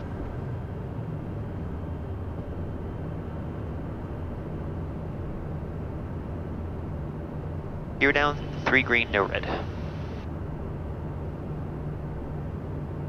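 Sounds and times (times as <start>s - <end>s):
airflow noise in cockpit: 0.0s - 13.0s
jet engine drone: 0.0s - 13.0s
low hum: 0.0s - 13.0s.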